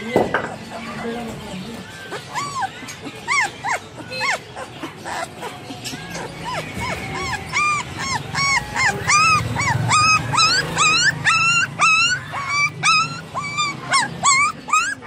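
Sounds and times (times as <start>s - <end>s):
puppy whimpering: 0.0s - 15.0s.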